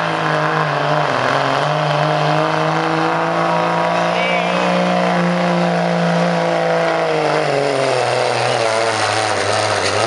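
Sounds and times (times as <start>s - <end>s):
diesel truck engine running hard: 0.0s - 10.0s.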